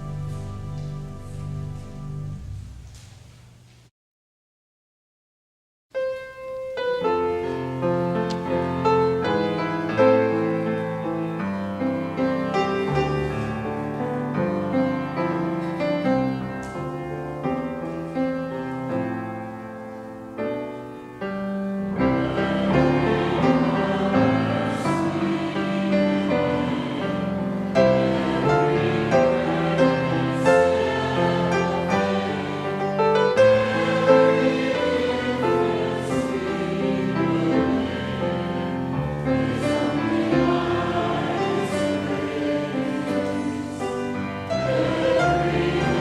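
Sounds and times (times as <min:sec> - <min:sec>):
piano playing slow chords: 0:00.0 - 0:03.6, 0:06.0 - 0:46.0.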